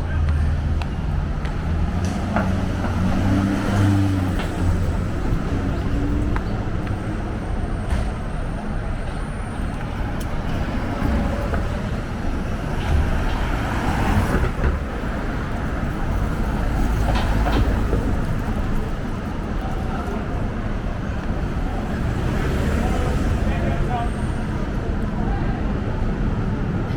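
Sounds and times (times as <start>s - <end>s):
street traffic rumble: 0.0s - 26.9s.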